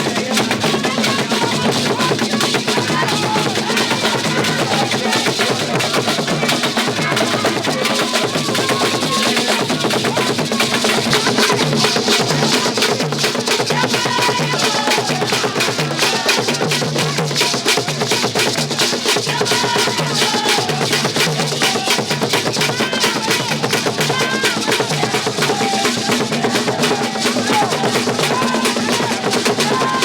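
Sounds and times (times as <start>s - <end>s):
fast dense drumming: 0.0s - 30.0s.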